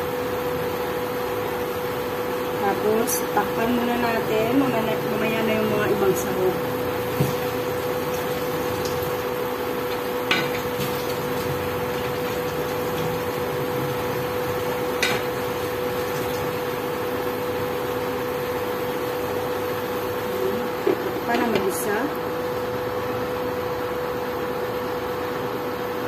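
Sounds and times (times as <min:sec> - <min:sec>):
induction cooktop humming: 0:00.0 - 0:26.0.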